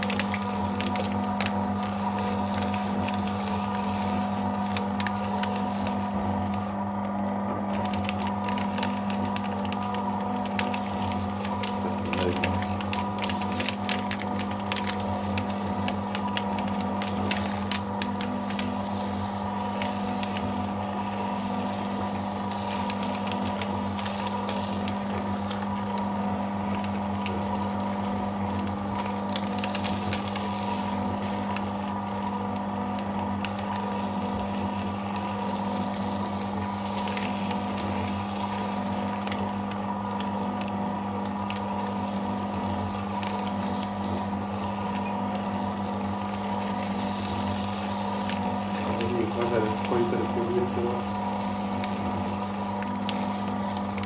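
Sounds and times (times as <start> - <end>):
paper shredder motor hum: 0.0 - 54.0
shredder cutters crackling paper: 0.0 - 54.0.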